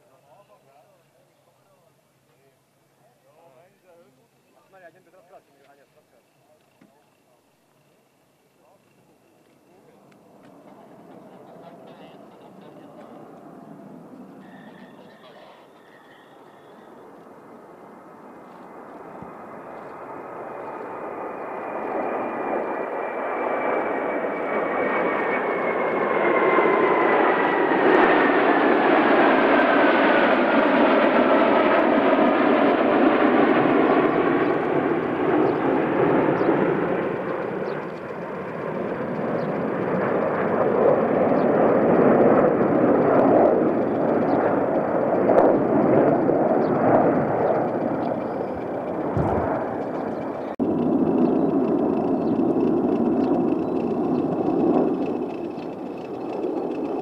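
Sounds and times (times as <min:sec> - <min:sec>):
jet fighters flying past: 0:07.1 - 0:57.0.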